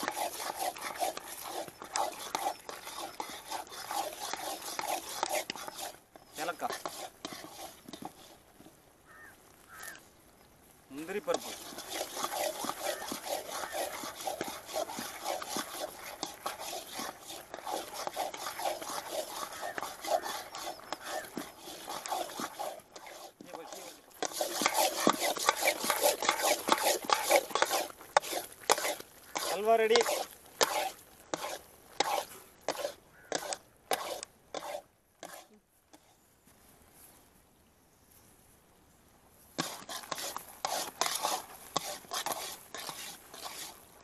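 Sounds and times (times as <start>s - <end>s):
ladle stirring thick mixture: 0.0s - 8.6s, 11.0s - 35.5s, 39.6s - 44.0s.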